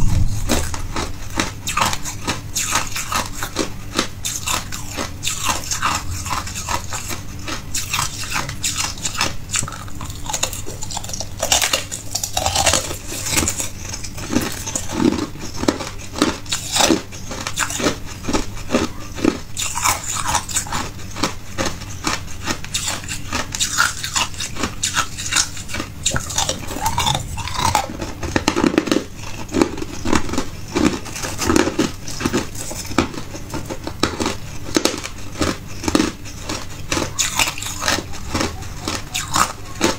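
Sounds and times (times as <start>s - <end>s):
person chewing hard ice: 0.0s - 39.9s.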